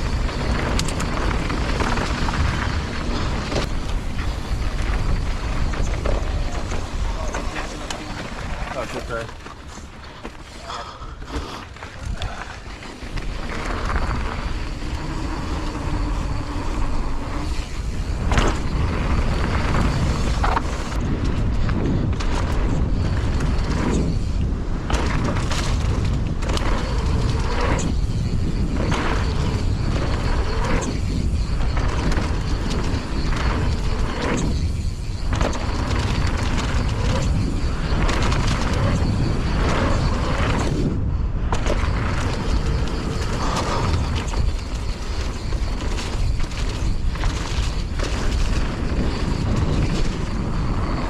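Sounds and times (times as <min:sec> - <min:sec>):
mountain bike rattling on trail: 0:00.0 - 0:51.0
wind buffeting microphone: 0:00.0 - 0:51.0.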